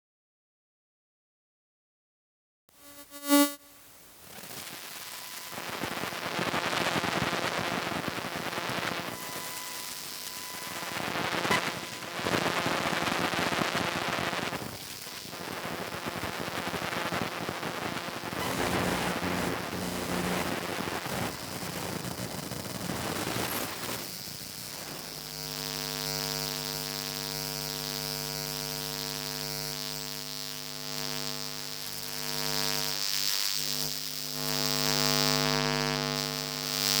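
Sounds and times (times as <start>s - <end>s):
steady electrical buzz: 2.7s - 37.0s
hissing crackling interference noise: 2.8s - 37.0s.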